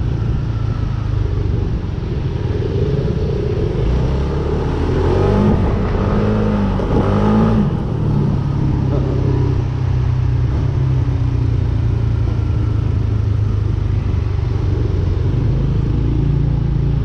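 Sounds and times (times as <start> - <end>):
scooter engine cruising: 0.0 - 17.0
wind and road noise: 0.0 - 17.0.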